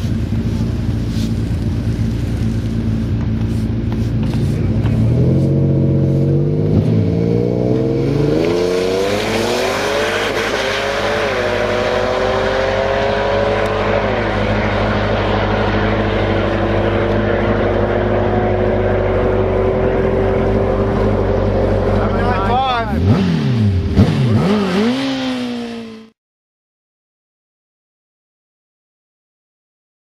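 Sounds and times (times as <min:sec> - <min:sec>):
car engine accelerating hard: 0:00.0 - 0:26.2.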